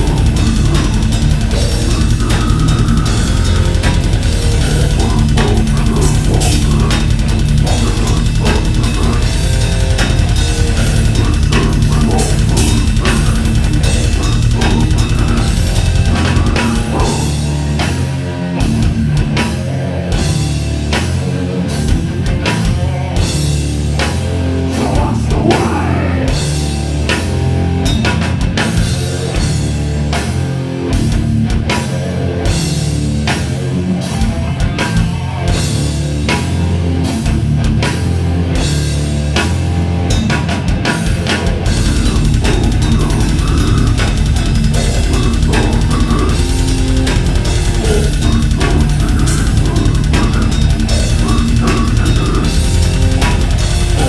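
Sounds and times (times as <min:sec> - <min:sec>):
distorted electric guitars and bass: 0:00.0 - 0:54.0
fast drum-kit hits: 0:00.0 - 0:54.0.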